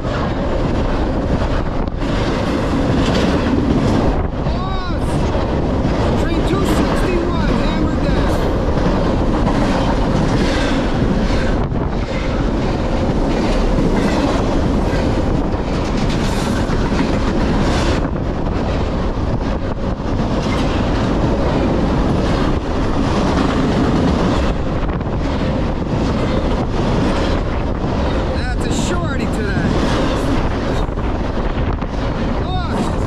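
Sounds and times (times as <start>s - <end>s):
wheels clicking over rail joints: 0.0s - 4.4s, 5.2s - 33.0s
train wheels rumbling on rails: 0.0s - 33.0s.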